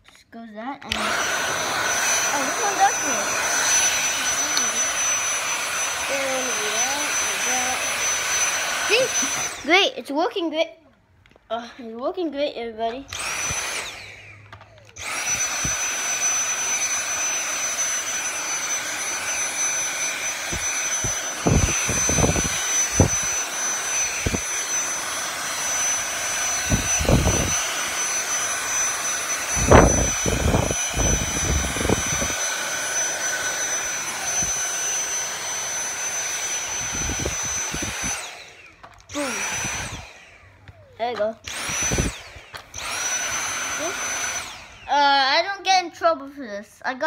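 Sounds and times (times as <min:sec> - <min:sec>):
vacuum cleaner whining: 0:00.8 - 0:10.4, 0:11.2 - 0:45.8.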